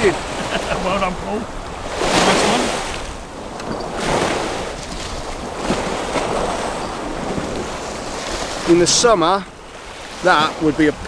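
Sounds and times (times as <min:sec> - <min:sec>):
sea waves breaking against wall: 0:00.0 - 0:11.0.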